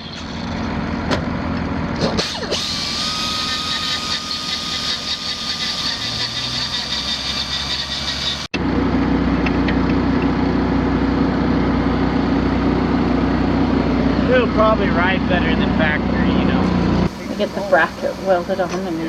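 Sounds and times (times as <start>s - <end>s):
heavy engine idling: 0.0s - 19.0s
high whine: 2.6s - 19.0s.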